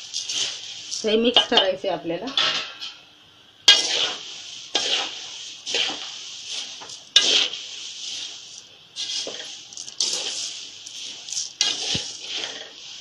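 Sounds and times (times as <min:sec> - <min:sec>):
spoon stirring flakes in metal pan: 0:00.0 - 0:02.6, 0:03.7 - 0:13.0
metal scraping against pan: 0:00.0 - 0:03.0, 0:03.7 - 0:13.0.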